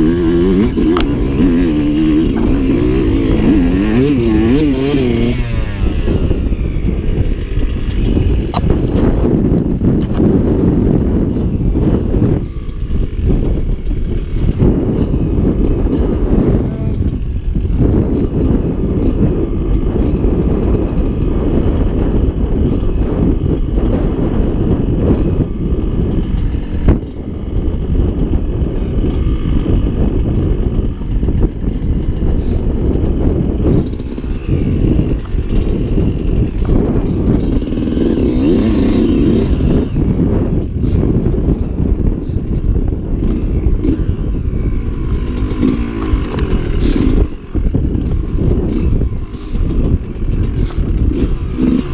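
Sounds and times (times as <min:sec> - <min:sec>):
dirt bike engine running: 0:00.0 - 0:51.9
heavy low rumble: 0:00.0 - 0:51.9.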